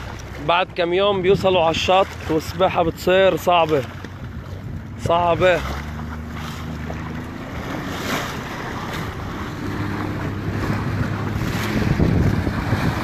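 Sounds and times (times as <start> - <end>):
motorboat engine humming: 0.0 - 13.0
water splashing along hull: 0.0 - 13.0
wind buffeting microphone: 0.0 - 13.0.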